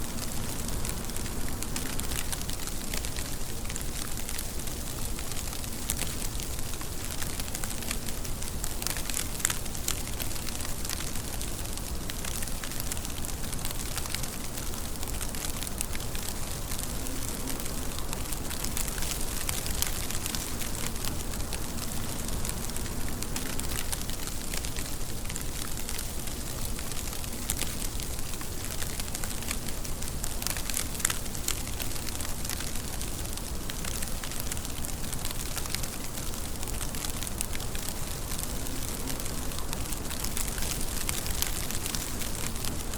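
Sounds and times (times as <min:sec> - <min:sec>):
rain hissing: 0:00.0 - 0:42.9
raindrops ticking nearby: 0:00.0 - 0:42.9.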